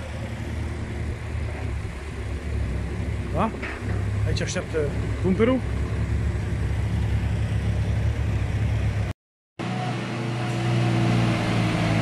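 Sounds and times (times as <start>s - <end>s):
dumper engine humming: 0.0s - 12.0s
excavator diesel engine running: 0.0s - 12.0s.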